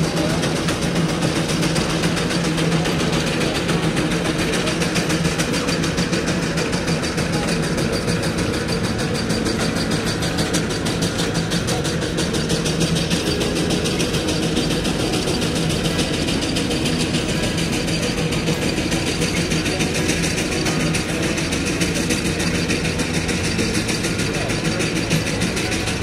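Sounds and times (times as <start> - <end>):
steam traction engine chuffing: 0.0 - 26.0.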